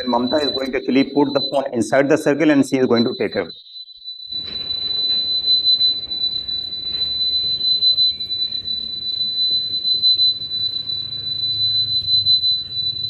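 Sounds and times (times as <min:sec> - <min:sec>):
high sine tone wavering: 0:00.0 - 0:13.0.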